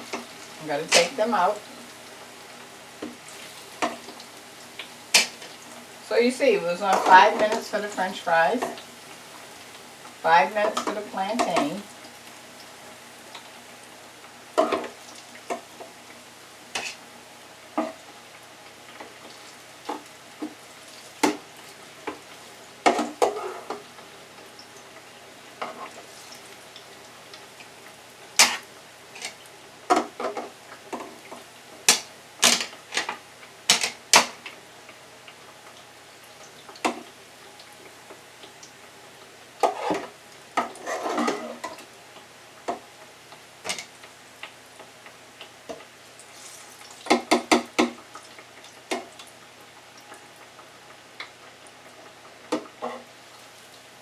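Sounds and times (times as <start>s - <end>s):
oil sizzling in deep fryer: 0.0s - 54.0s.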